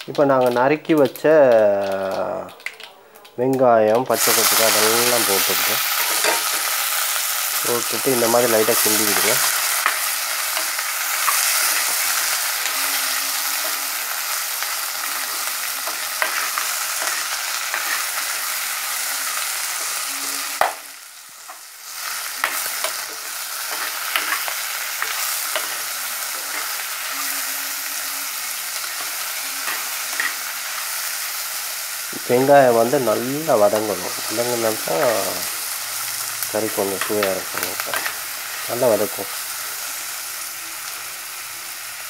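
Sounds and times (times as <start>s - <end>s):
onions sizzling in hot oil: 0.0s - 42.0s.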